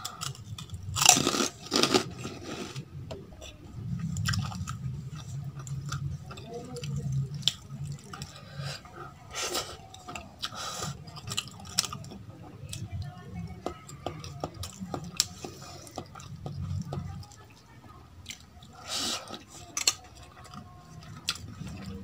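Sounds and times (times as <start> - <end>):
person chewing food: 0.0 - 12.8, 13.5 - 22.0.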